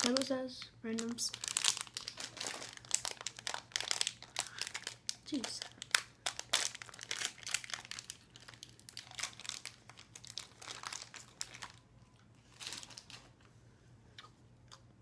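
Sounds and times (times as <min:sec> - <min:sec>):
plastic wrapper crinkling: 0:00.0 - 0:13.5.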